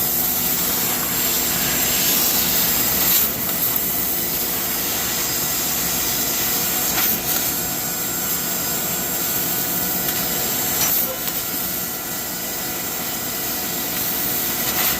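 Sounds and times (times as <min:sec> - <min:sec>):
laser cutting machine hissing: 0:00.0 - 0:14.9.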